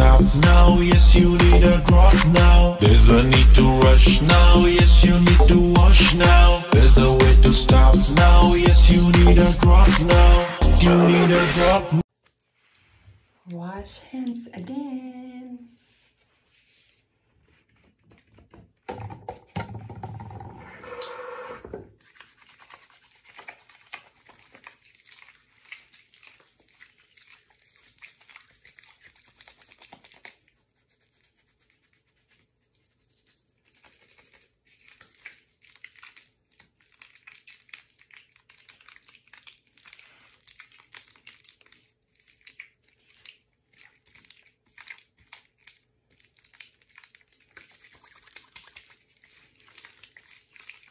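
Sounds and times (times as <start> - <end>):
soapy hands rubbing together: 0.0 - 11.9, 15.8 - 17.6, 22.0 - 50.9.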